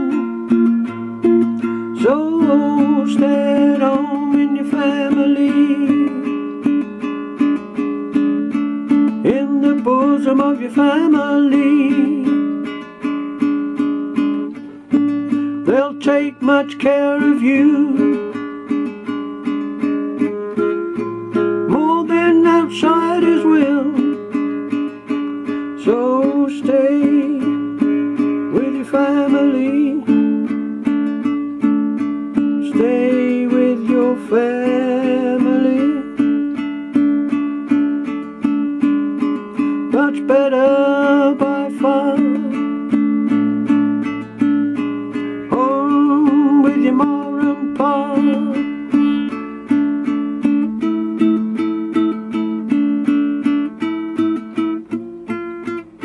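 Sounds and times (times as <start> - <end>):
person singing: 0.0 - 56.0
strummed acoustic string chords: 0.0 - 56.0.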